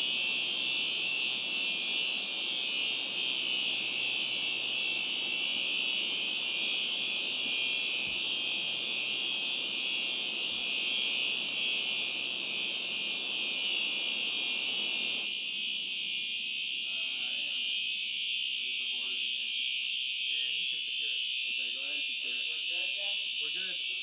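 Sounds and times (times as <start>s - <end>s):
high-pitched fire alarm: 0.0s - 24.0s.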